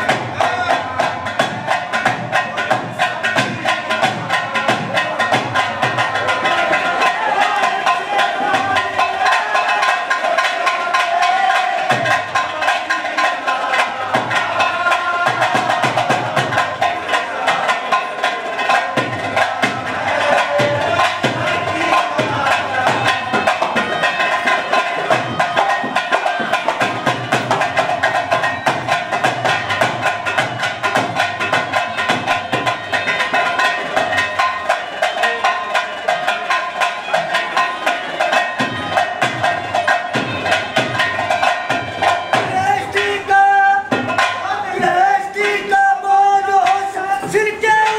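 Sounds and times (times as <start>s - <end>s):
drum beating steady rhythm: 0.0s - 47.9s.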